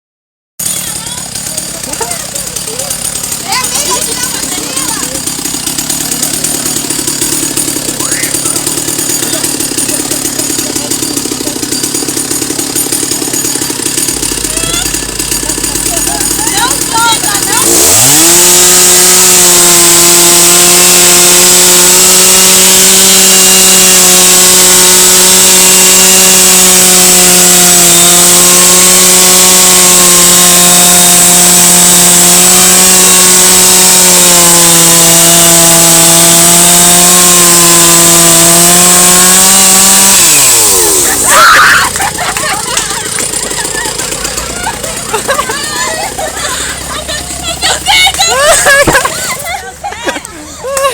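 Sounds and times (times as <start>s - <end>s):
chainsaw at full throttle: 0.6s - 50.9s.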